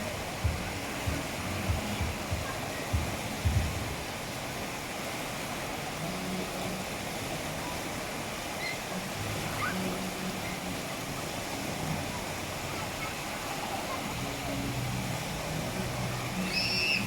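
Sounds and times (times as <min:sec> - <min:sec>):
faint distant voices: 0:00.0 - 0:17.0
water rushing in pool: 0:00.0 - 0:17.0.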